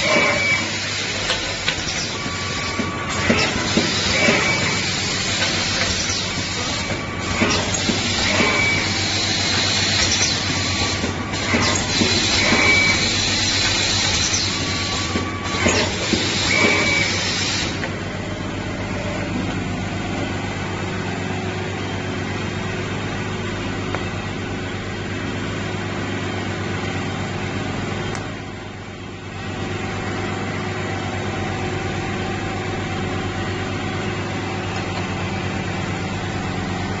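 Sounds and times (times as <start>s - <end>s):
machine motor hum and mechanism: 0.0s - 37.0s.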